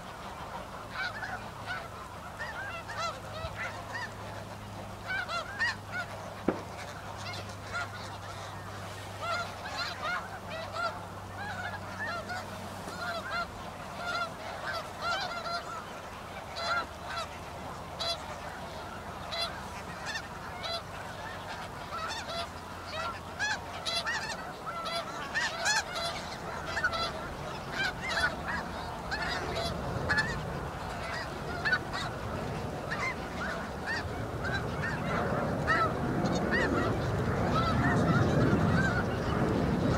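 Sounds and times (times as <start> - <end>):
flock of geese honking: 0.0 - 39.9.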